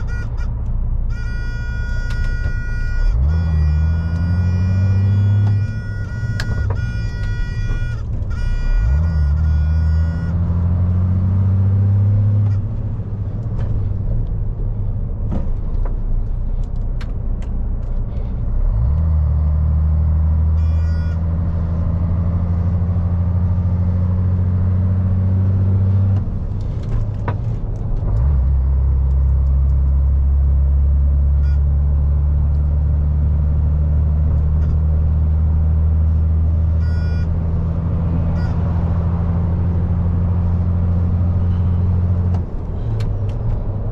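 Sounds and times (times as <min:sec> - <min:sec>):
lorry diesel engine droning: 0:00.0 - 0:43.9.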